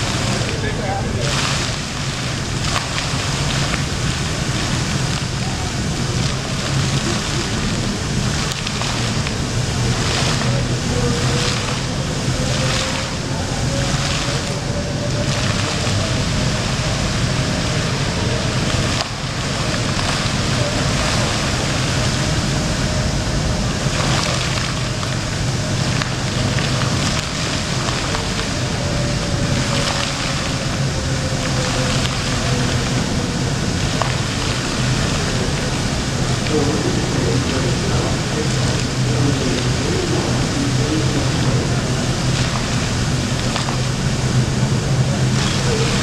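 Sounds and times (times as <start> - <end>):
fountain water splashing into pool: 0.0 - 46.0.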